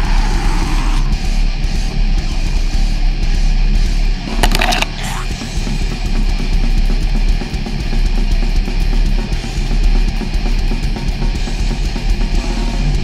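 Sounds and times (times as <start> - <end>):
heavy rock music with electric guitar: 0.0 - 13.0.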